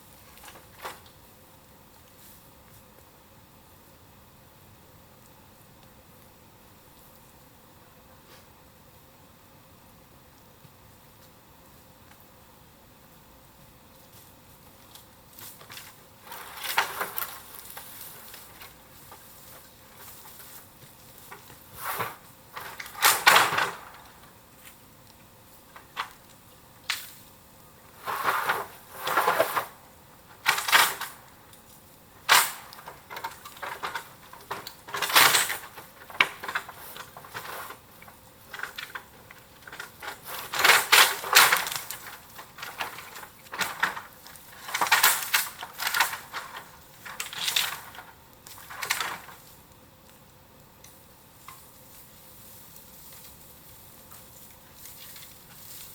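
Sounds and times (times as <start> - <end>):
bamboo bonfire crackling: 0.0 - 55.9
low fire hiss: 0.0 - 55.9.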